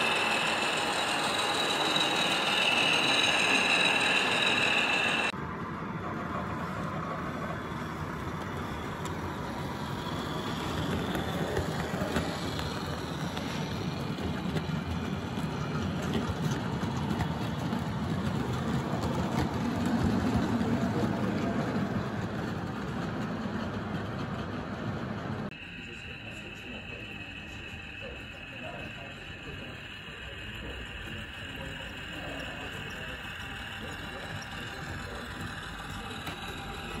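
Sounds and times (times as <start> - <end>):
model trains rumbling on track: 0.0 - 37.0.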